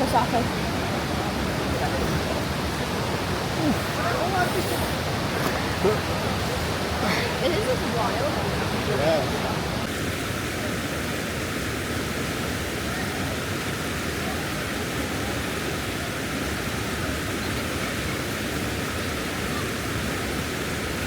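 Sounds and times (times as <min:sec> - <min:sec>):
waterfall and river roaring: 0:00.0 - 0:21.0.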